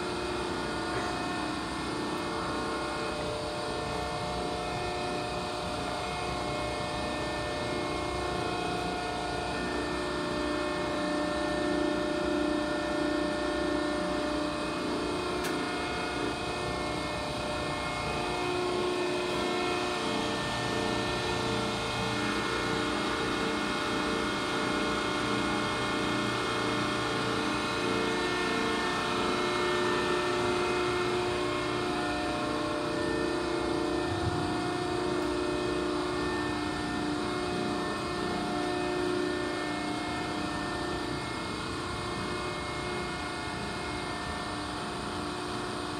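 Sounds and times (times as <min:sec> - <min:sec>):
hydraulic press machine hum: 0:00.0 - 0:45.9.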